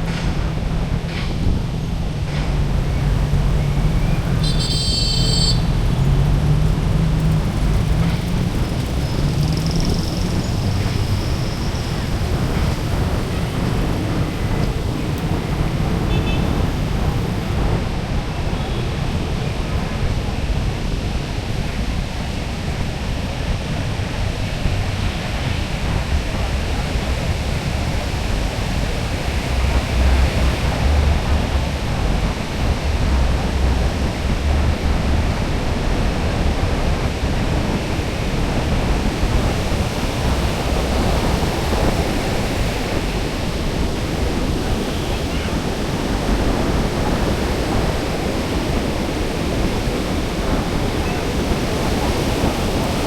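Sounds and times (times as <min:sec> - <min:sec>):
wind buffeting microphone: 0:00.0 - 0:04.6, 0:05.2 - 0:53.0
ocean surf washing onto beach: 0:05.7 - 0:53.0.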